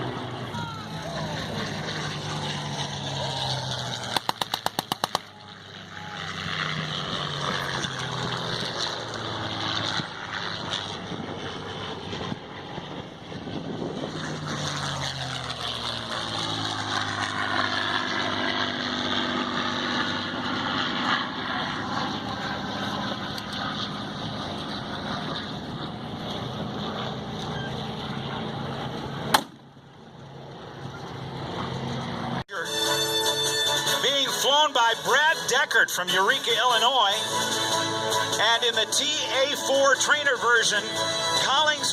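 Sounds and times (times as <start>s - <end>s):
aircraft engine roar passing: 0.0s - 41.9s.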